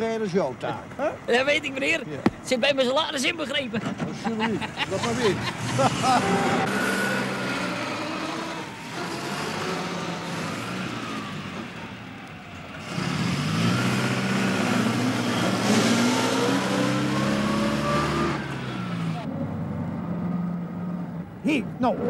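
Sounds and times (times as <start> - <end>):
car engine pulling away: 3.8 - 22.0.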